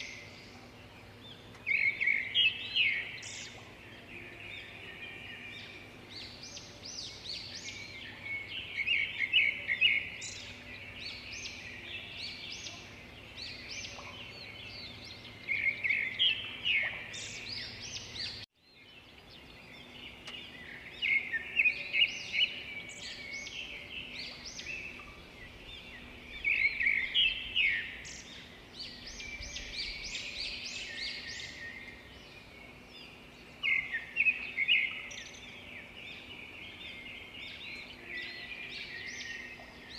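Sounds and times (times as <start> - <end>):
birds chirping and trilling: 0.0 - 39.9
faint steady hum: 0.0 - 39.9.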